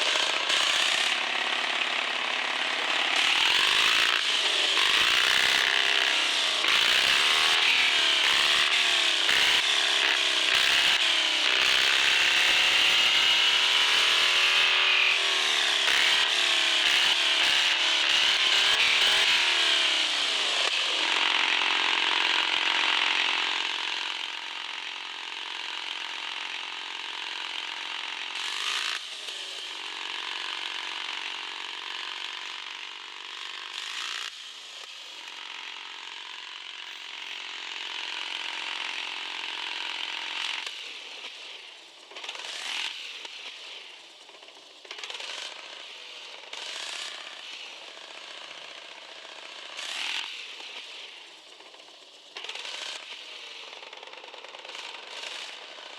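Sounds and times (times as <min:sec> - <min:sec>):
electric motor and gearbox whining: 0:00.0 - 0:55.9.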